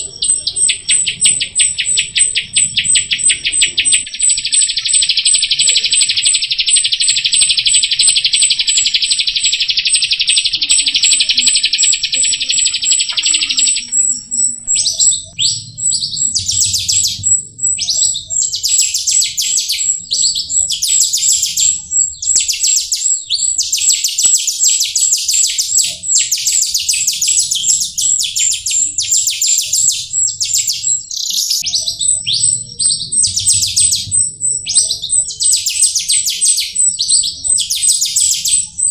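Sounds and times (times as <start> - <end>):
starling chattering trill: 0.0 - 38.9.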